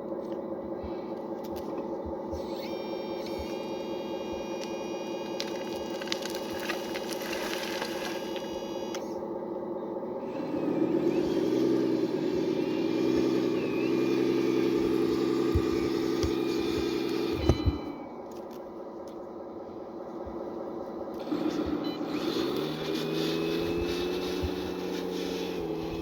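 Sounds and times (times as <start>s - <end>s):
motor and hydraulic pump hum: 0.0s - 26.0s.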